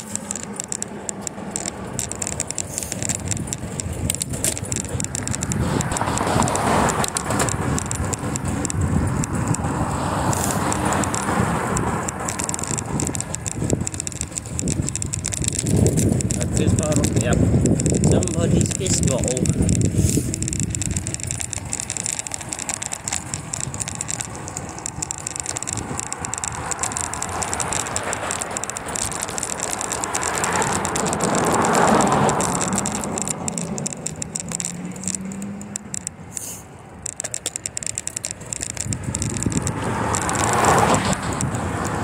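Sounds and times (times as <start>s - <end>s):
bicycle parts rattling: 0.0s - 42.0s
rapid ticking: 0.0s - 42.0s
wind on microphone: 2.9s - 33.9s, 38.4s - 42.0s.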